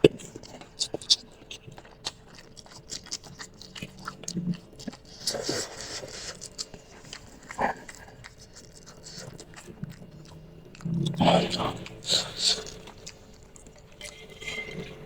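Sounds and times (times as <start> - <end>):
wet chewing with mouth clicks: 0.0 - 15.0.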